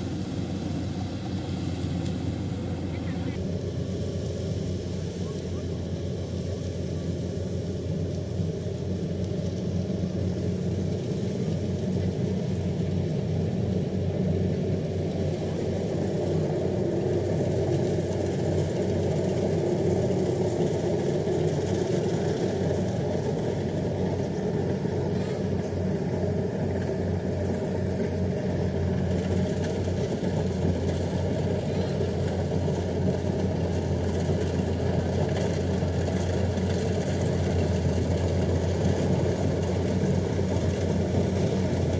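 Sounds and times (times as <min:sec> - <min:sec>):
combine harvester engine hum: 0:00.0 - 0:41.9.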